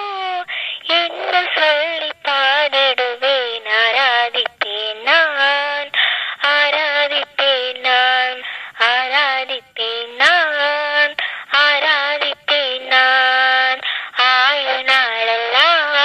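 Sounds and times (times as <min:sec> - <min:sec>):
woman singing devotional song: 0:00.0 - 0:16.0.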